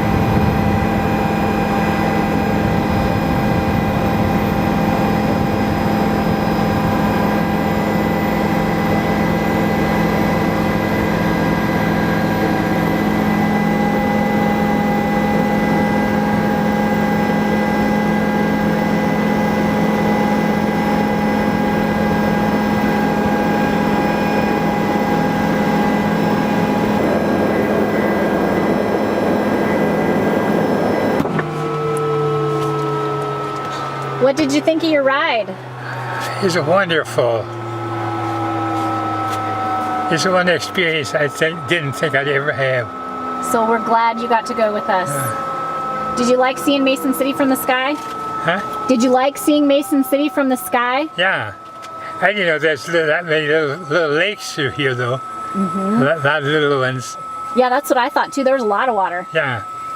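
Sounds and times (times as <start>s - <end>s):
helicopter in flight: 0.0s - 59.9s.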